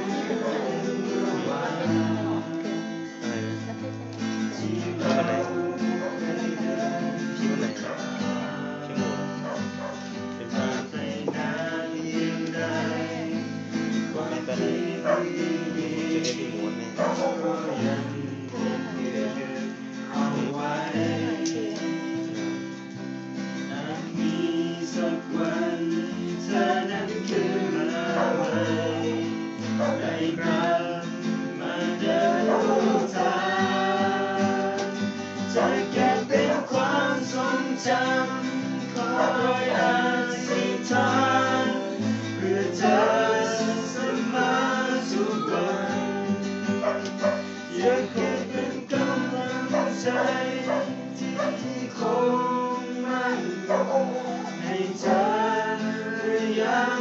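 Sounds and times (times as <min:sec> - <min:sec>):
strummed acoustic guitar music: 0:00.0 - 0:57.0.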